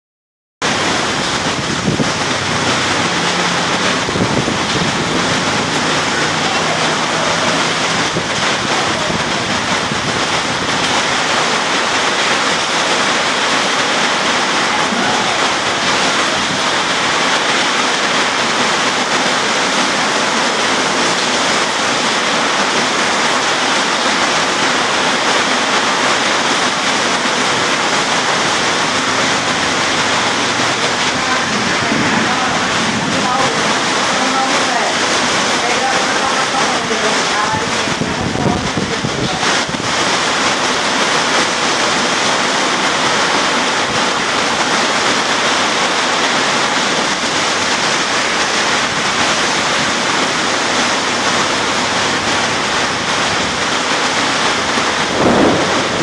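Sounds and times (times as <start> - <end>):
heavy rain pouring: 0.6 - 56.0.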